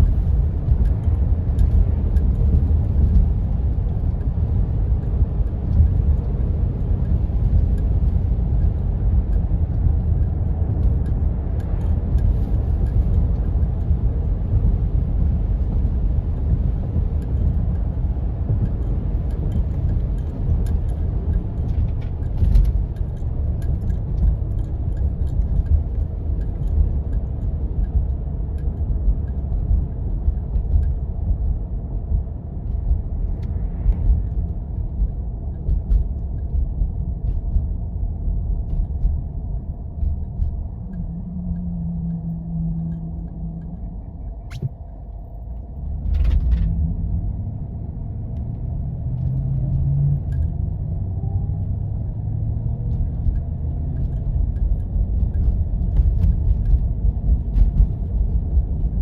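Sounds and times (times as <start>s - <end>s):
vehicle engine and tyres on snow: 0.0s - 59.0s.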